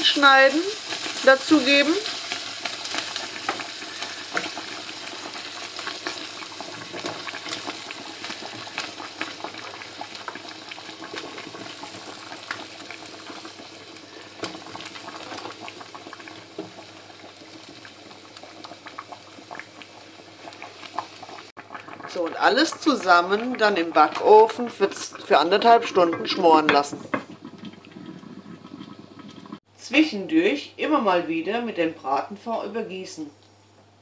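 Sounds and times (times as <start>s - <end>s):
juices sizzling in roasting pan: 0.0s - 29.6s.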